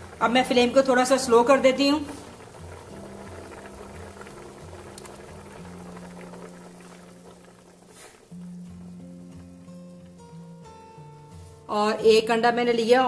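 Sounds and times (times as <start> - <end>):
soup bubbling in a pot: 0.0 - 11.7.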